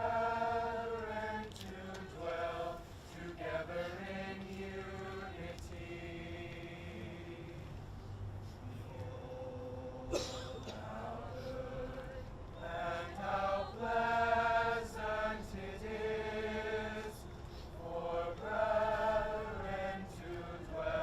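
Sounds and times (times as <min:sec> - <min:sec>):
choir singing held chords: 0:00.0 - 0:08.0, 0:08.6 - 0:21.0.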